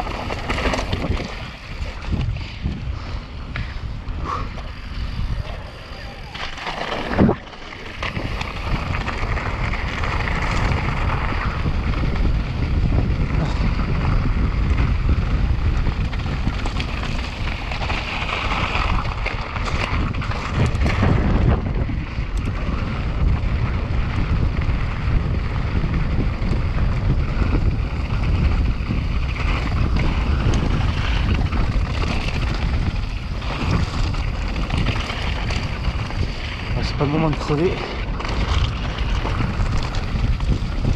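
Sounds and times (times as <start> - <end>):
bike tyres rumbling on rough trail: 0.0 - 40.9
wind buffeting microphone: 0.0 - 40.9.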